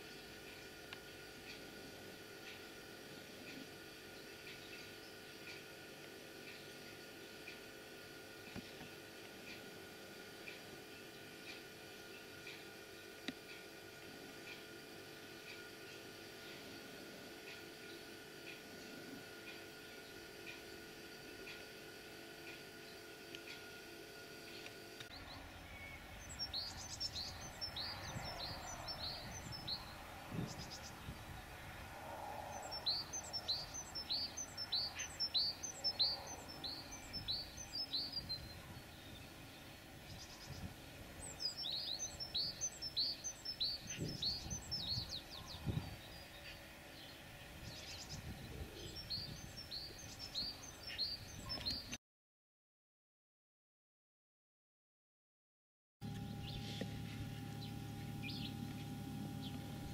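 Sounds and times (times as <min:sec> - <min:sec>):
songbird singing: 0:00.0 - 0:52.0, 0:56.0 - 0:59.9.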